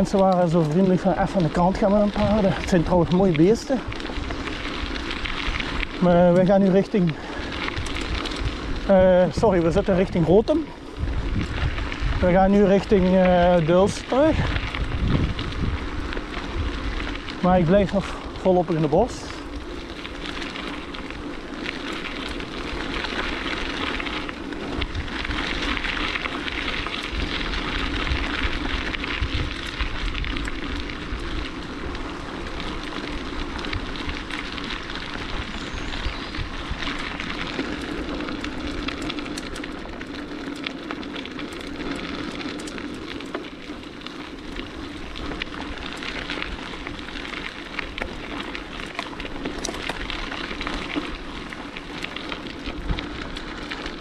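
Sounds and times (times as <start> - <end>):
bicycle tyres on leafy dirt: 0.0 - 54.0.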